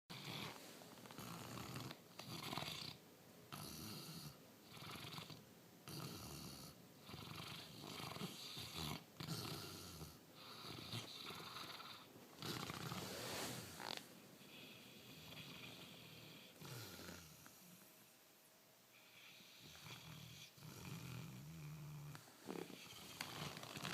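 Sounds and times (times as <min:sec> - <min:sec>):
dog snoring: 0:00.1 - 0:17.9, 0:18.9 - 0:23.9.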